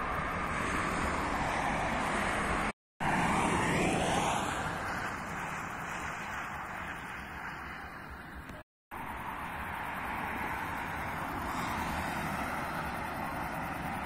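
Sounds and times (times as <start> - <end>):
vehicle passing: 0.0 - 8.4, 9.0 - 14.0
distant expressway traffic: 0.0 - 14.0.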